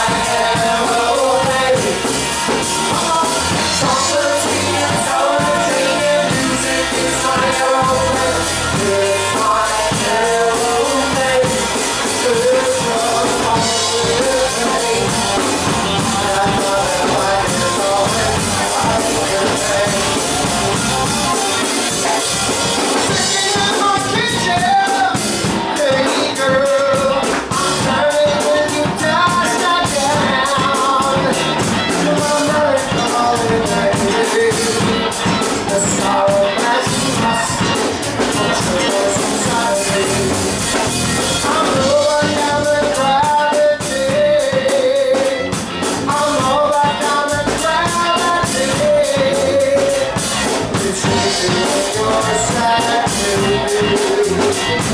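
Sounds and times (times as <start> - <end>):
lead singer: 0.0 - 54.9
rock band playing: 0.0 - 54.9.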